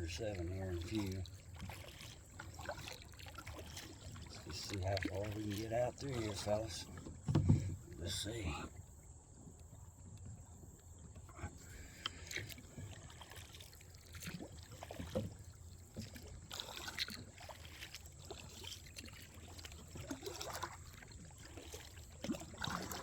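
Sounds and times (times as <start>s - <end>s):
paddle splashing in water: 0.0s - 23.0s.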